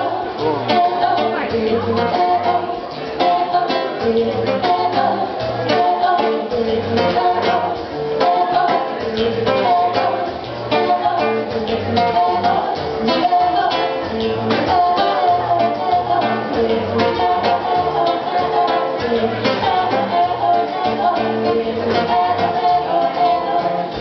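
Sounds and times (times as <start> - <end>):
strummed acoustic guitar: 0.0 - 24.0
women singing together: 0.0 - 24.0.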